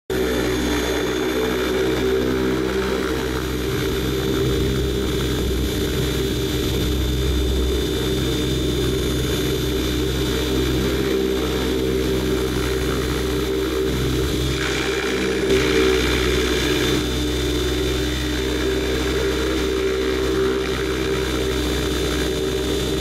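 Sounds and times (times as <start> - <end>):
aircraft engine drone: 0.1 - 23.0
thin high whine: 0.1 - 23.0.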